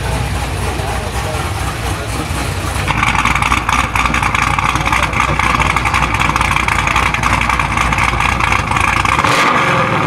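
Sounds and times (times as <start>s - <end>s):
crowd voices: 0.0s - 8.9s
car engine rumbling: 0.0s - 10.0s.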